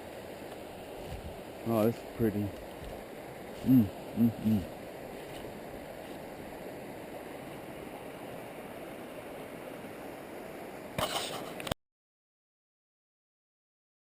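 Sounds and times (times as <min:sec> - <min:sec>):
stream water rushing: 0:00.0 - 0:11.7.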